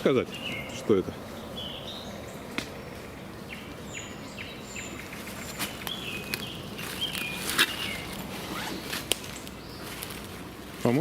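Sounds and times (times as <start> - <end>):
background hiss: 0.0 - 11.0
songbirds chirping and whistling: 0.0 - 11.0.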